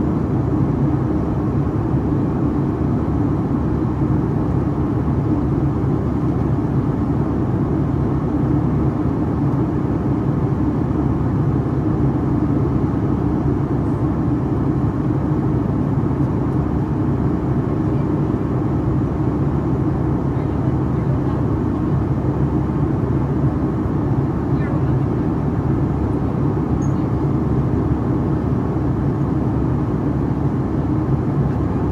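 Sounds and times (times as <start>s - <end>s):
jet engine drone in cabin: 0.0s - 31.9s.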